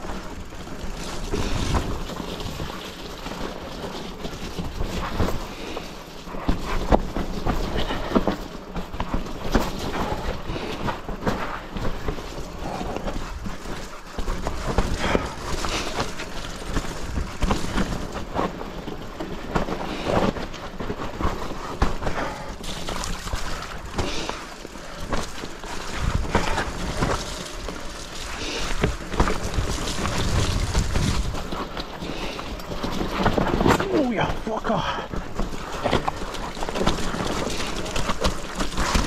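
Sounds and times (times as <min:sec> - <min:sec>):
bike knocks and rattles: 0:00.0 - 0:39.0
bike tyres rolling over dirt: 0:00.0 - 0:39.0.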